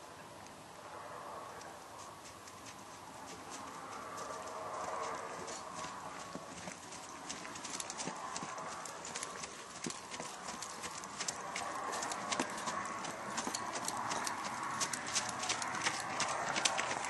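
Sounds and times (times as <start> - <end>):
hoofbeats on packed snow: 2.2 - 17.0.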